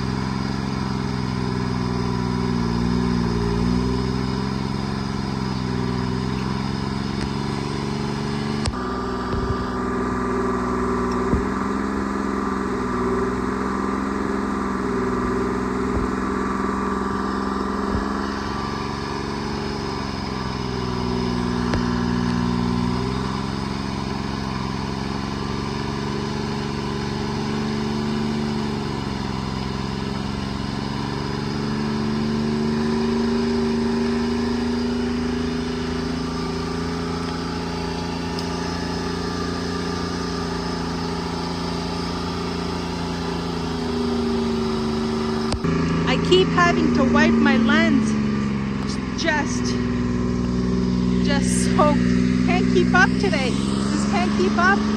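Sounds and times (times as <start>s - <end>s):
forestry machine engine running: 0.0s - 54.9s.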